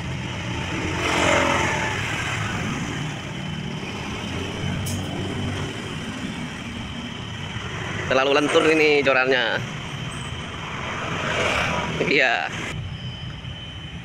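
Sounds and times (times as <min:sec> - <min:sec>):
vehicle passing: 0:00.0 - 0:12.8
road traffic rumble: 0:00.0 - 0:14.0.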